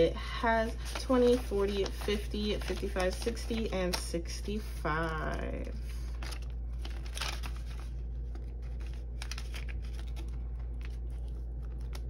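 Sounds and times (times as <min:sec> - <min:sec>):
low steady hum: 0:00.0 - 0:12.0
paper banknotes rustling: 0:00.0 - 0:12.0.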